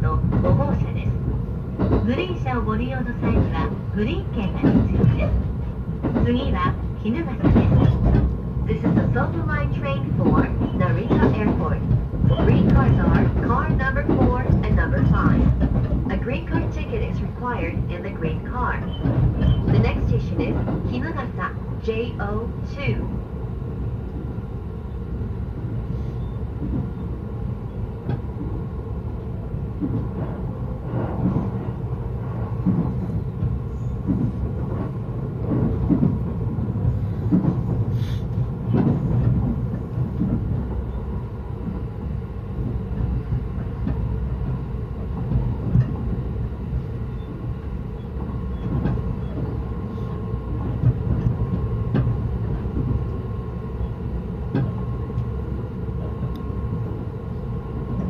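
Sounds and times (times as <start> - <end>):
train rumble from inside: 0.0 - 58.0.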